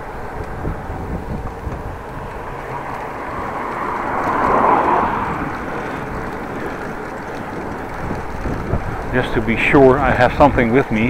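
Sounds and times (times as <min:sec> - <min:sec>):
bicycle tyres rolling on road: 0:00.0 - 0:11.0
wind: 0:00.0 - 0:11.0.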